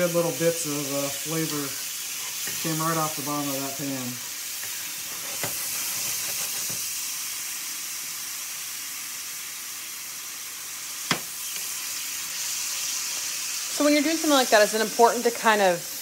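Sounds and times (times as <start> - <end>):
mushrooms sizzling in a skillet: 0.0 - 16.0.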